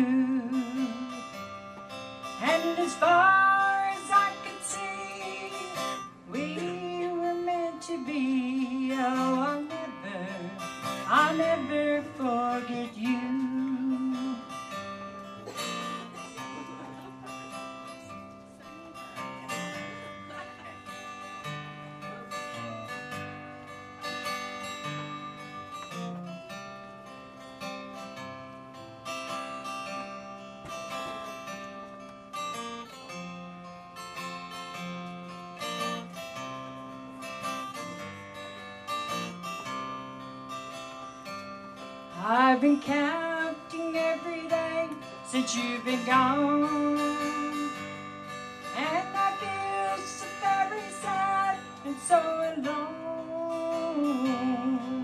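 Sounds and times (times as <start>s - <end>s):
acoustic guitar playing chords: 0.0s - 55.0s.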